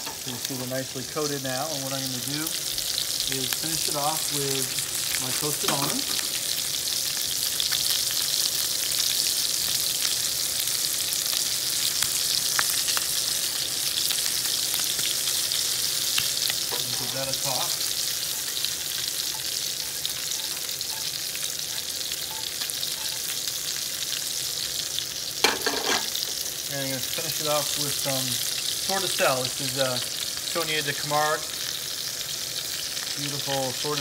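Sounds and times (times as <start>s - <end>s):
beans sizzling in frying pan: 0.0s - 34.0s.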